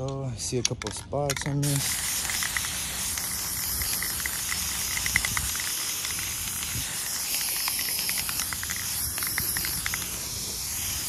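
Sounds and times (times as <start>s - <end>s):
spray can hissing: 1.6s - 11.0s.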